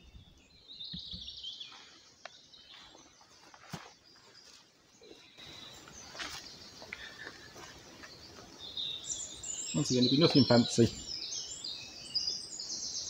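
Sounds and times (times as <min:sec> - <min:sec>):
faint bird chirping: 0:00.0 - 0:13.0.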